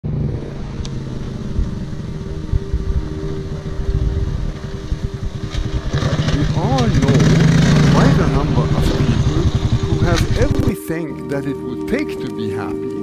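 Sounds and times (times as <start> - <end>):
quad engine rumbling: 0.0 - 10.7.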